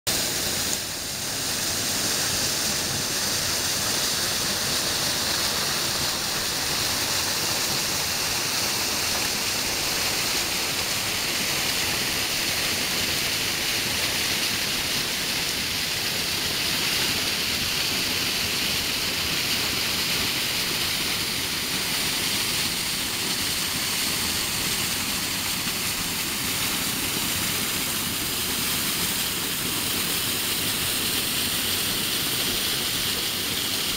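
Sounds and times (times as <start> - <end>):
stream rushing: 0.1 - 33.9
waterfall pouring over rocks: 0.1 - 33.9.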